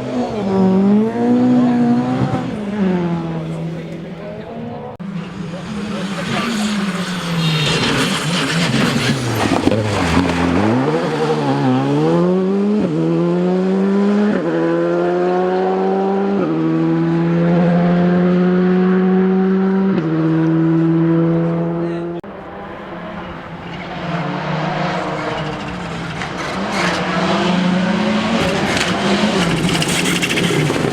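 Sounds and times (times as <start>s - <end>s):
rally car engine: 0.0s - 30.9s.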